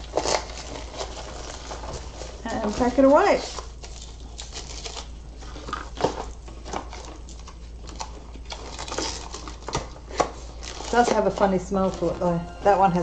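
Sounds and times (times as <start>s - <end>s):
rustling of plastic and paper: 0.0s - 12.2s.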